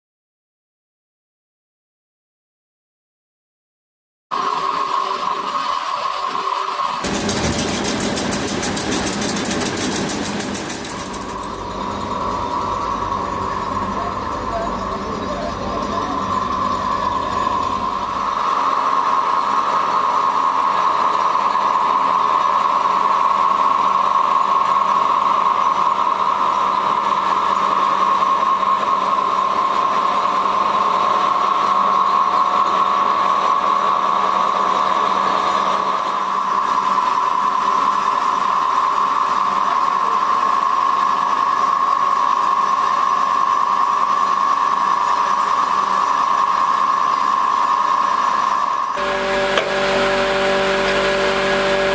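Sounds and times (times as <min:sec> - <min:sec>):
machinery drone: 0:04.3 - 0:51.9
constant high hum: 0:04.4 - 0:51.9.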